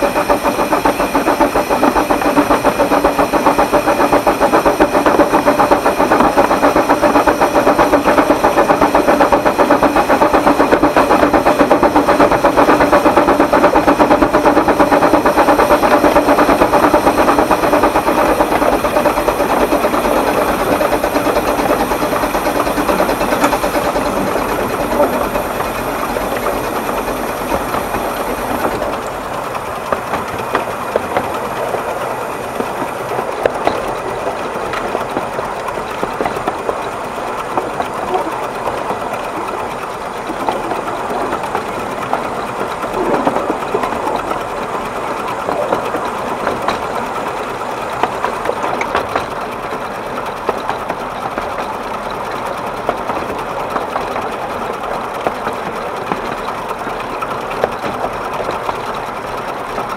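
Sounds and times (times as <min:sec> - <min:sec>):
steam locomotive clatter: 0:00.0 - 0:59.9.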